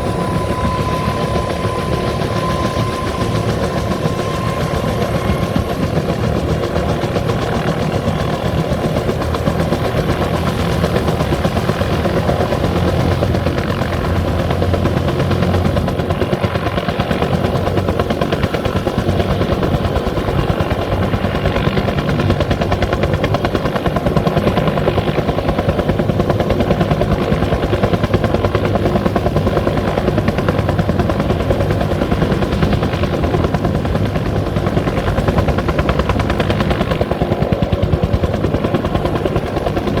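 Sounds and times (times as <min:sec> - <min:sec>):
helicopter rotor beating: 0:00.0 - 0:40.0
helicopter turbine: 0:00.0 - 0:40.0.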